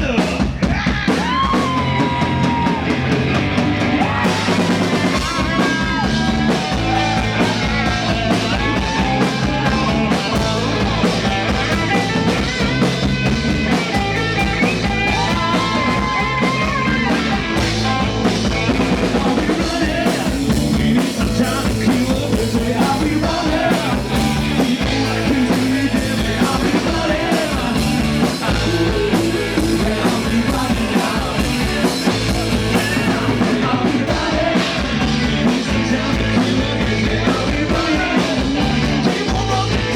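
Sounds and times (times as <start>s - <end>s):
bass guitar: 0.0s - 39.9s
drum kit beat: 0.0s - 39.9s.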